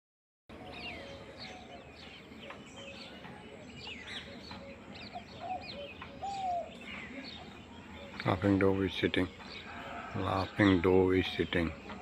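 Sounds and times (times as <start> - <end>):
wild birds chirping: 0.5 - 12.0.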